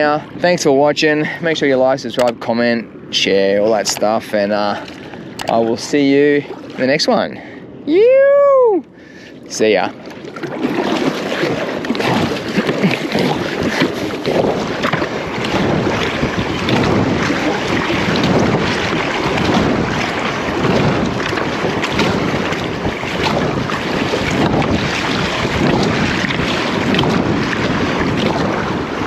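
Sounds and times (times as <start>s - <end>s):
water sloshing around kayak: 0.0s - 29.0s
wind buffeting microphone: 0.0s - 29.0s.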